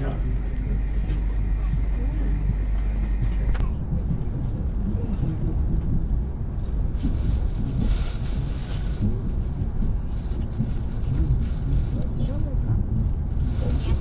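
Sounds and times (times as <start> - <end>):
electric train rumble inside carriage: 0.0 - 14.0.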